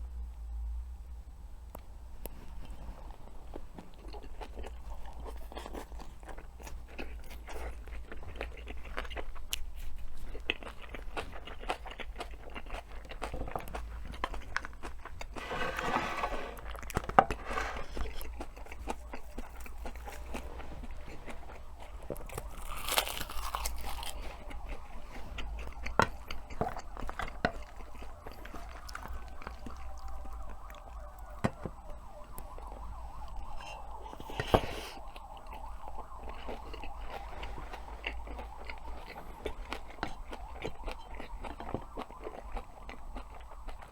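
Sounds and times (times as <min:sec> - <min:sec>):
chewing and crunching food: 0:01.7 - 0:43.9.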